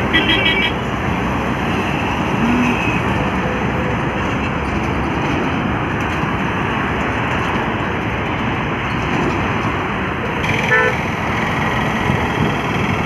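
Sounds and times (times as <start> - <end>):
heavy trucks on highway: 0.0 - 13.0.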